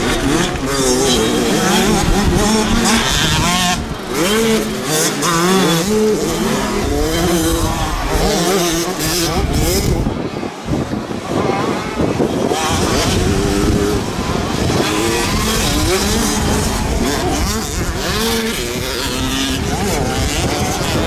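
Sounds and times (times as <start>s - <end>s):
motocross bikes revving past: 0.0s - 21.0s.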